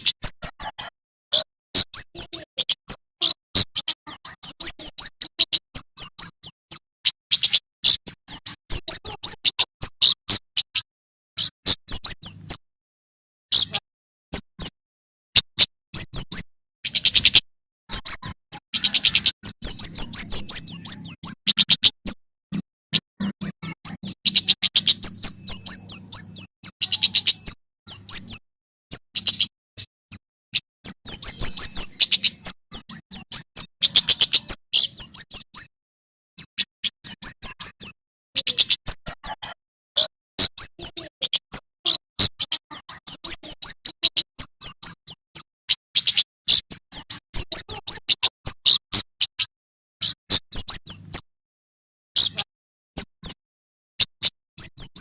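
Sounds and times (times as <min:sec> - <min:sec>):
bird chirping: 0:00.0 - 0:10.8, 0:11.4 - 0:12.6, 0:13.5 - 0:14.8, 0:15.4 - 0:35.7, 0:36.4 - 0:51.3, 0:52.2 - 0:53.4, 0:54.0 - 0:55.0.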